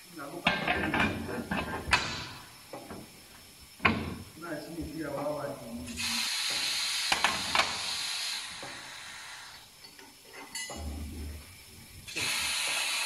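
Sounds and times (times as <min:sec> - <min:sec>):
hiss: 0:00.0 - 0:13.0.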